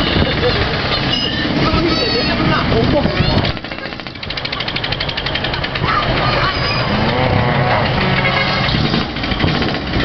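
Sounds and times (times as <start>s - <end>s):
vehicle engines running: 0.0s - 10.0s.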